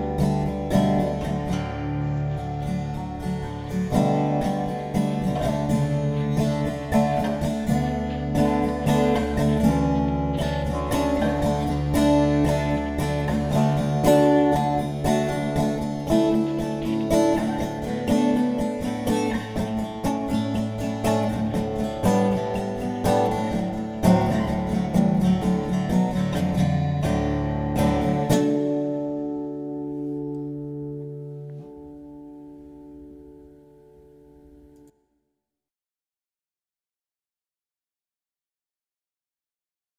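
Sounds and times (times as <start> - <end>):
acoustic guitar plucking: 0.0 - 34.9.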